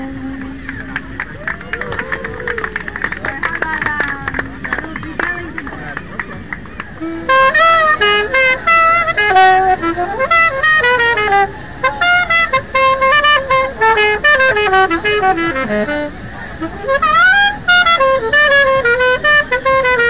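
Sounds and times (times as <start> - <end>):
solo alto saxophone: 0.0 - 20.0.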